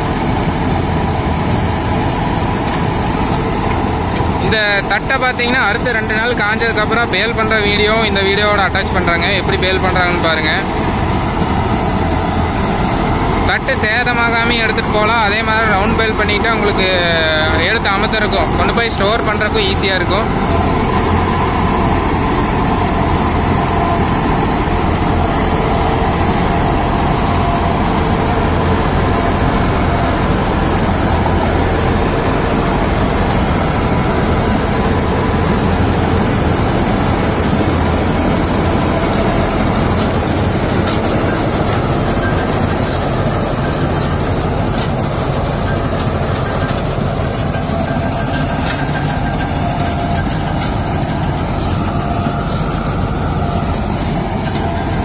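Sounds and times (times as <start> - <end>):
tractor diesel engine under load: 0.0 - 55.0
harvester header rattling and clicking: 5.1 - 55.0.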